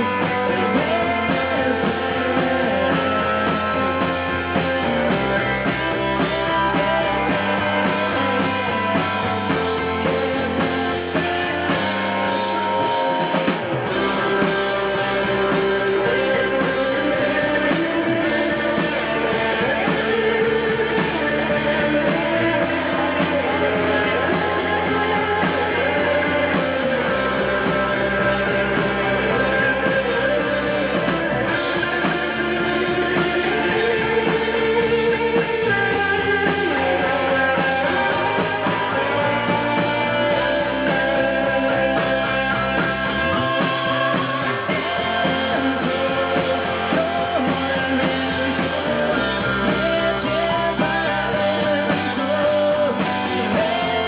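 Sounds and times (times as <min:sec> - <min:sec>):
guitar: 0:00.0 - 0:54.0
person singing: 0:00.0 - 0:54.0
rock band playing: 0:00.0 - 0:54.0.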